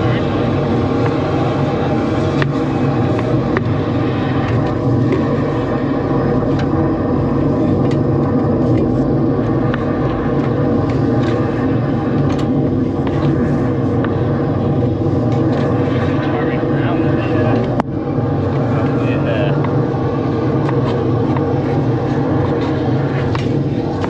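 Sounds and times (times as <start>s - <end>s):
drain jetting machine running: 0.0s - 24.0s.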